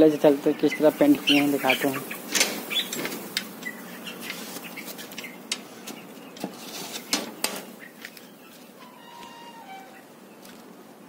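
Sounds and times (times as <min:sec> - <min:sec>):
chicks cheeping: 0:00.0 - 0:10.9.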